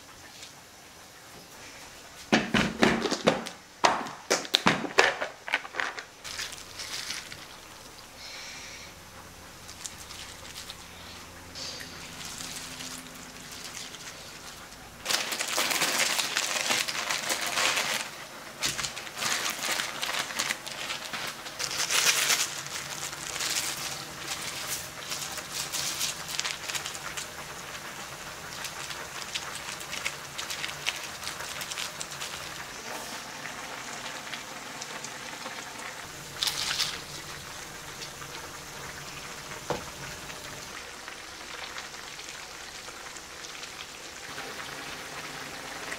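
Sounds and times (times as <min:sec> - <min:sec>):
broth sizzling and bubbling: 0:06.1 - 0:45.9.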